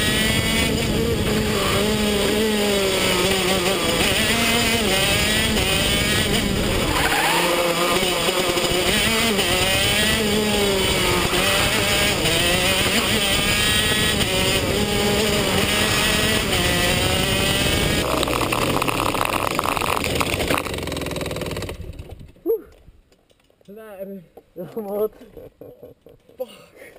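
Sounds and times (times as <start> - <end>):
kart engine revving: 0.0 - 22.4.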